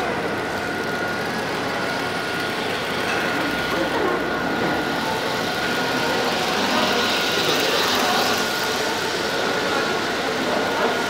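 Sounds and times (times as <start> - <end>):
hubbub of busy hall: 0.0 - 11.0
model train motors whirring: 0.0 - 11.0.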